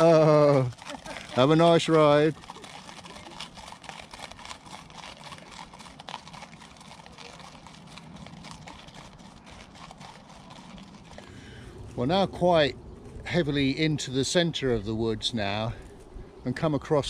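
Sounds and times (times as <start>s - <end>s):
horse hooves on gravel: 0.0s - 17.0s.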